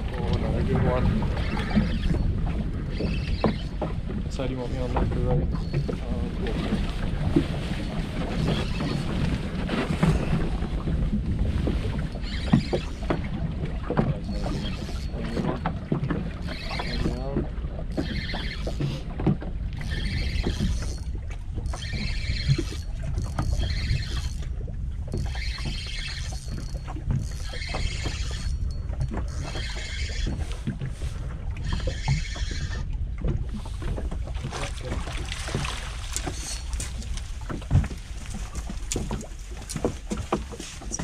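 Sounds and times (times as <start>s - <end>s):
water around boat: 0.0s - 41.0s
wind on microphone: 0.0s - 41.0s.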